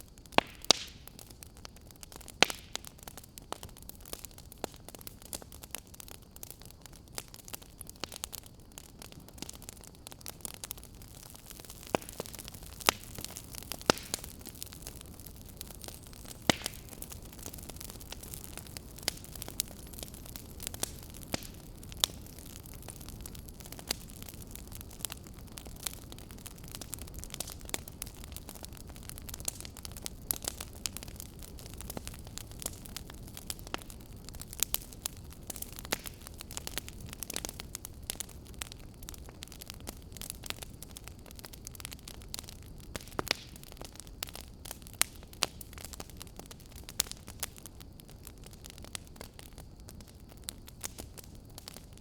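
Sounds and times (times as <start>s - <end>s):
fireplace fire crackling: 0.0s - 52.0s.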